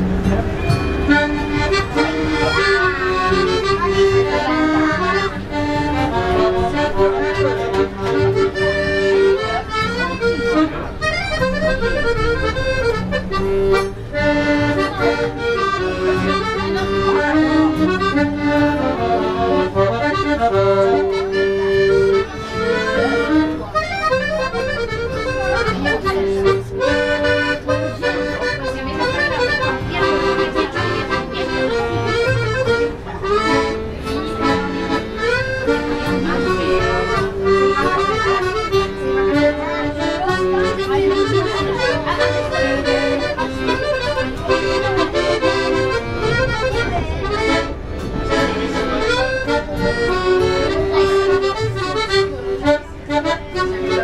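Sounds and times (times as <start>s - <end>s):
piano accordion playing: 0.0s - 54.0s.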